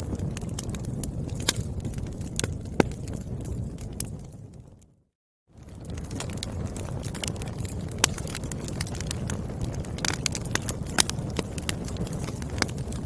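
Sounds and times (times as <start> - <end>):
firewood crackling and popping: 0.0 - 13.0
low fire rumble: 0.0 - 13.0.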